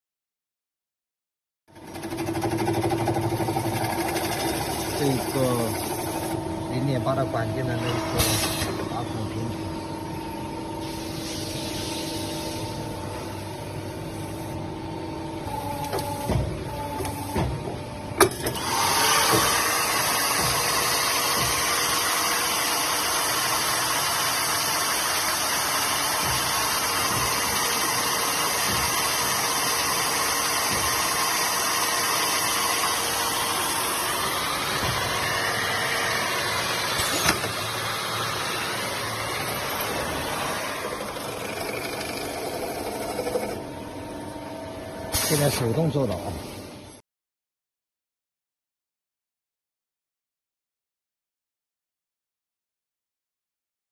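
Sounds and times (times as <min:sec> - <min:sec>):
machine motor hum: 0:01.7 - 0:47.0.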